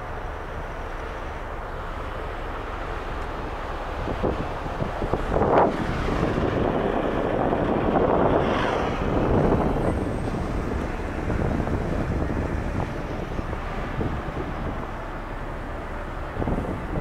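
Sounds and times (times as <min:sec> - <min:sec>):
motorboat rushing: 0:00.0 - 0:17.0
wind buffeting microphone: 0:02.5 - 0:17.0.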